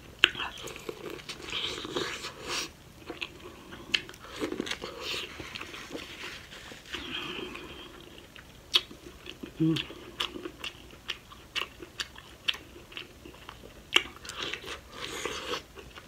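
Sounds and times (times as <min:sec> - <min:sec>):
chewing corn cob: 0:00.2 - 0:16.0.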